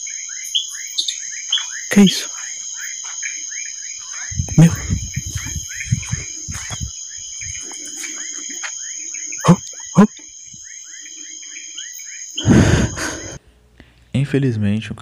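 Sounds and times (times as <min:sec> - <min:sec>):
insects trilling: 0:00.0 - 0:13.4.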